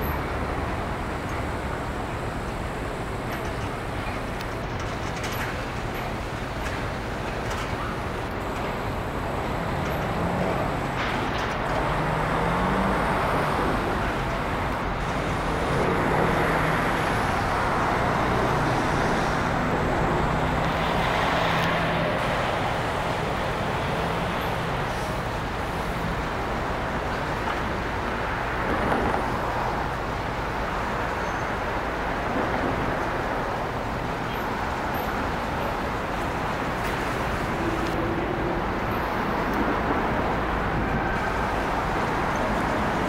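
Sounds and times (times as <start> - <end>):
passing cars and trucks: 0.0 - 43.0.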